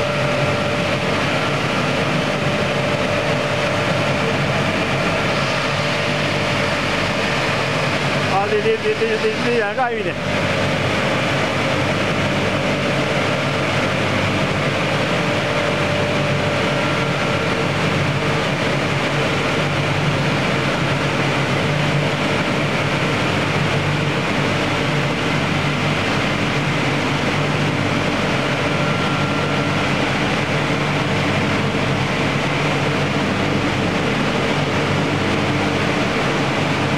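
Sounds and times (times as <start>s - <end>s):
machine fans and motors droning: 0.0s - 36.9s.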